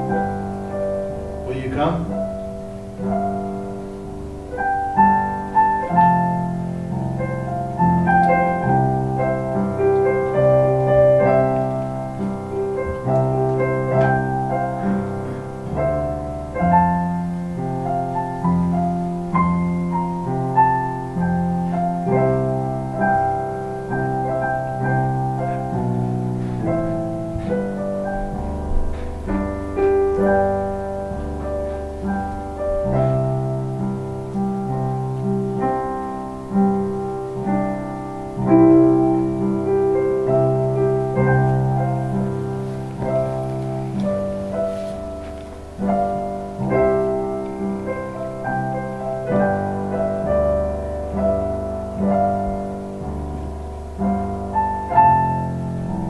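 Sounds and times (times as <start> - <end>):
piano chords: 0.0 - 56.0.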